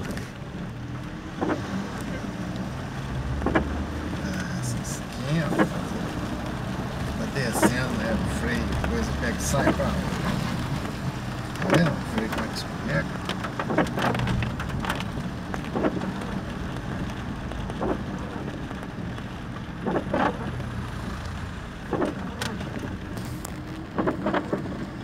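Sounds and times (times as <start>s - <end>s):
car engine humming: 0.0s - 25.0s
tyres hissing on a wet road: 0.0s - 25.0s.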